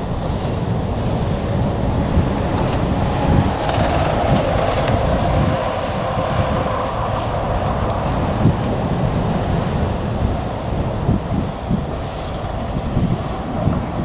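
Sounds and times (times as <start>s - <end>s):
jet engines rumbling at taxi: 0.0s - 14.0s.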